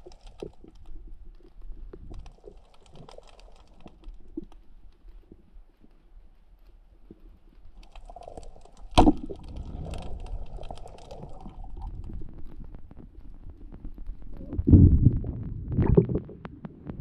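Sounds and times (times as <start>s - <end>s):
underwater clicking and rustling: 0.0s - 17.0s.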